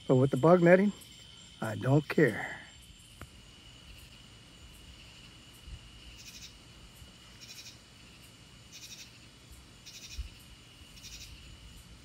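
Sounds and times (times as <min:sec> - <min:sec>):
insect chirping trill: 0:00.0 - 0:12.0
insect drone: 0:00.0 - 0:12.0.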